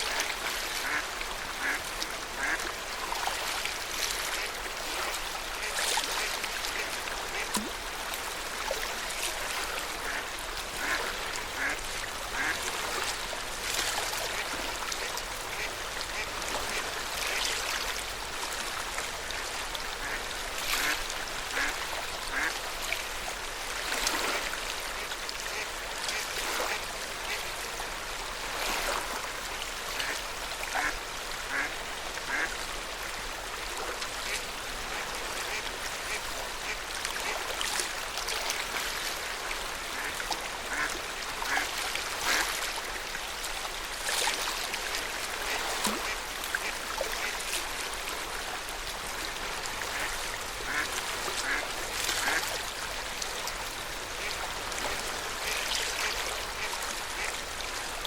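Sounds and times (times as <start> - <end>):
lake water lapping: 0.0 - 27.8, 28.4 - 58.0.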